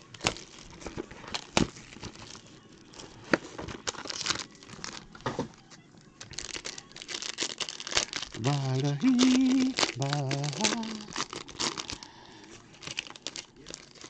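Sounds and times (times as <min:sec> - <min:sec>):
plastic wrap crinkling and tearing: 0:00.0 - 0:14.0.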